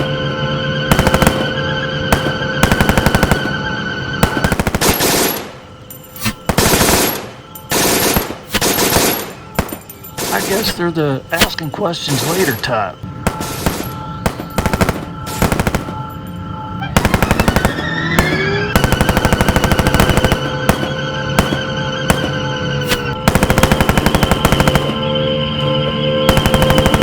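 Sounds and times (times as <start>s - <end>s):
machine-gun fire: 0.0s - 0.2s, 0.9s - 10.8s, 13.2s - 16.3s, 17.0s - 25.2s, 26.3s - 27.0s
music with sustained notes: 0.0s - 27.0s.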